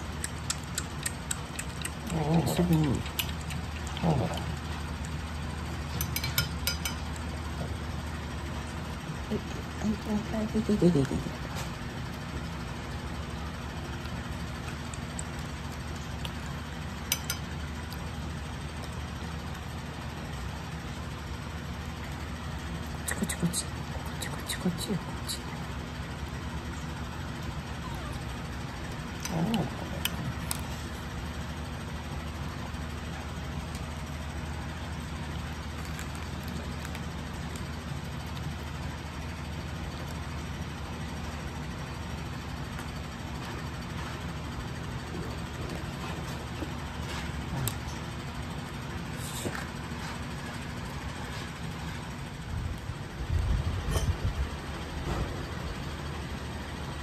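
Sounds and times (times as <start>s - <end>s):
air conditioner hum: 0.0s - 57.0s.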